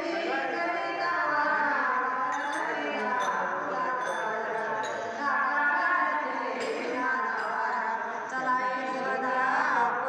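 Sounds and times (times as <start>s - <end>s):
voice singing into a microphone: 0.0s - 10.0s
women singing together: 0.0s - 10.0s.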